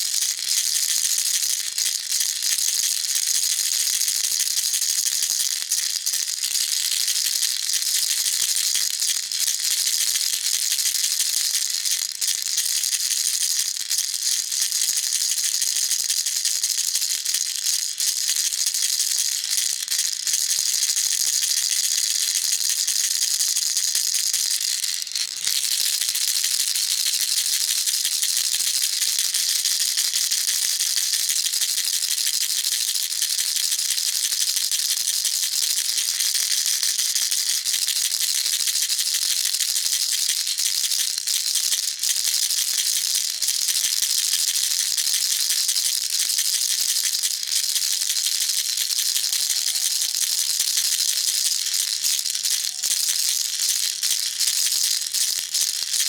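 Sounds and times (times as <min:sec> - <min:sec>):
baby rattle shaken: 0:00.0 - 0:56.0.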